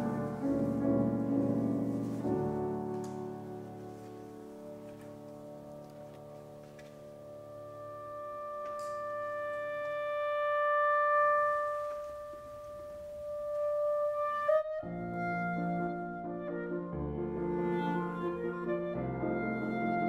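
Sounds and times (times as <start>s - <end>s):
piano chord: 0.0s - 20.0s
clarinet long held note: 2.2s - 20.0s.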